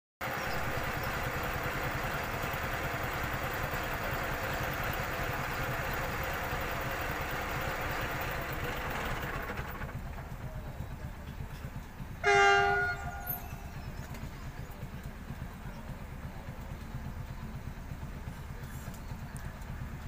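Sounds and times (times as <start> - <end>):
vehicle engine running: 0.2 - 20.0.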